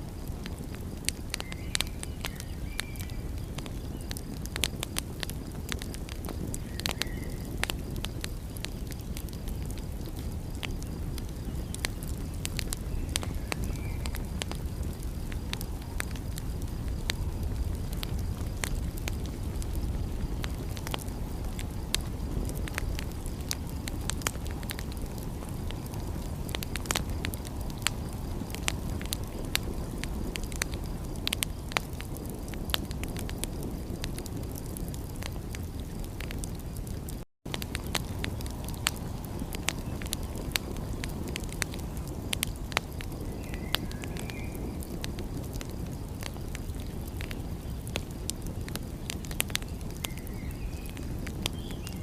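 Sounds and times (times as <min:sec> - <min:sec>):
fire rumbling: 0:00.0 - 0:52.0
wood fire crackling and popping: 0:00.0 - 0:52.0.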